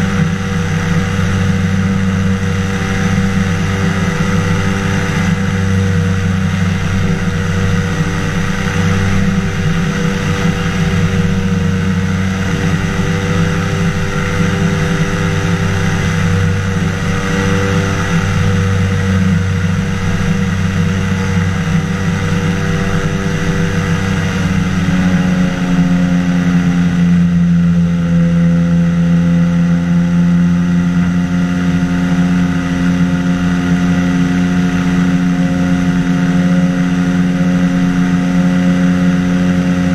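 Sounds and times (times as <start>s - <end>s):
aircraft engine and propeller droning: 0.0s - 39.9s
wind rushing over microphone: 0.0s - 39.9s.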